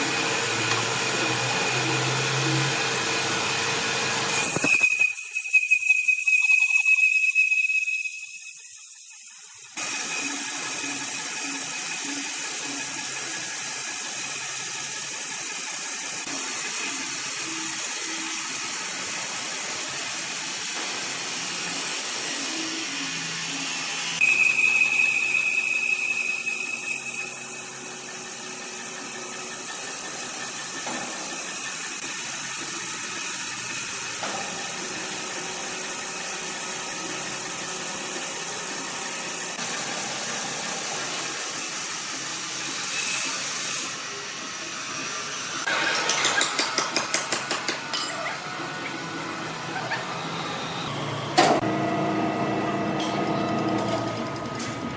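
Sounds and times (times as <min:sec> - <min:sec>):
saw whining into wood: 0:00.0 - 0:46.4
sawmill machinery hissing: 0:00.0 - 0:51.7.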